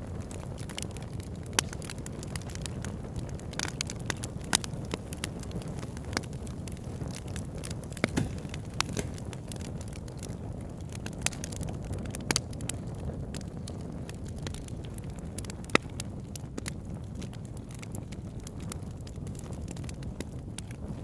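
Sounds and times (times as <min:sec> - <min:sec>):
loud pops from fire: 0:00.0 - 0:21.0
low rumble of flames: 0:00.0 - 0:21.0
wood fire crackling: 0:00.0 - 0:21.0.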